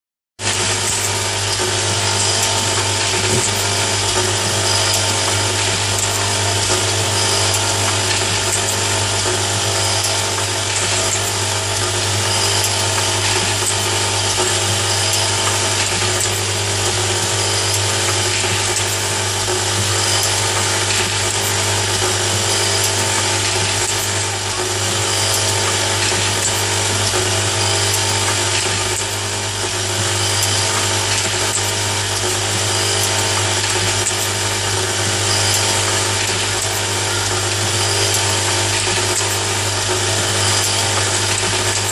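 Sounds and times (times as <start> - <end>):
mechanical whir: 0.4 - 41.9
motor hum: 0.4 - 41.9.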